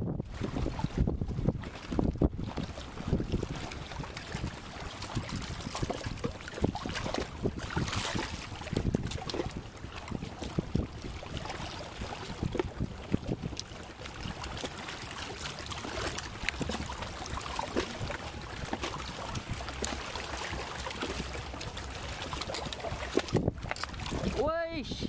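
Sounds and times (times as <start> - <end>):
water slapping and knocking: 0.3 - 24.5
sea water splashing on concrete: 2.6 - 24.6.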